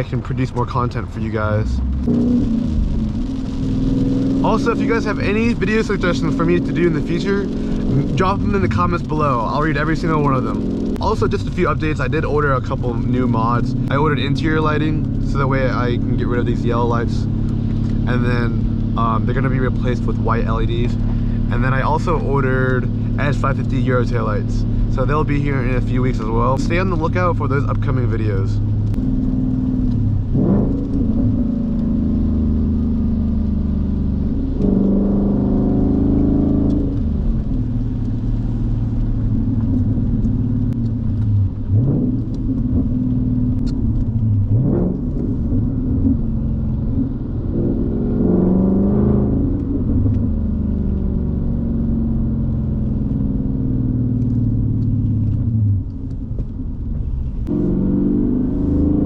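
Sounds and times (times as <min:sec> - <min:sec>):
car engine rumbling with gear shifts: 0:00.0 - 0:59.0.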